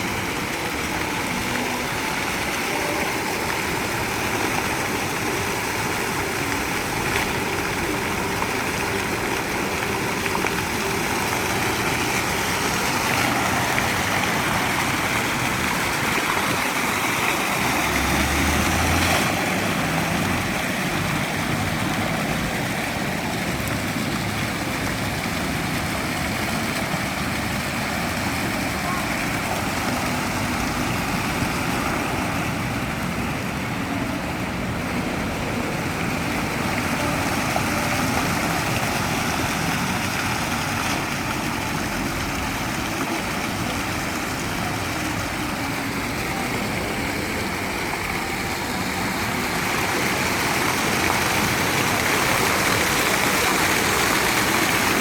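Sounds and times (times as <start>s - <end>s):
fountain water splashing into basin: 0.0s - 55.0s.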